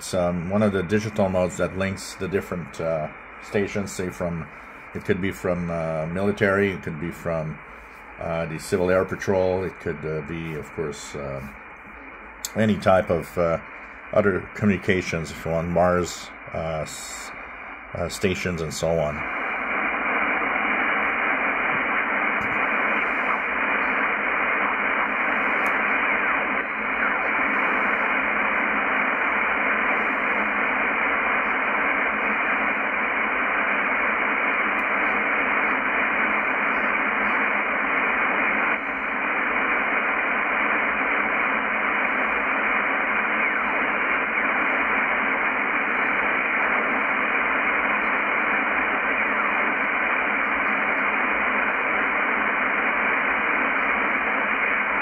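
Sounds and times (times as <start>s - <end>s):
shortwave receiver static hiss: 0.0s - 55.0s.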